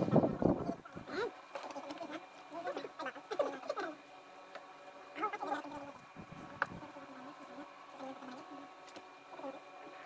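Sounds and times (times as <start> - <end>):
steady buzzing hum: 0.0 - 10.0.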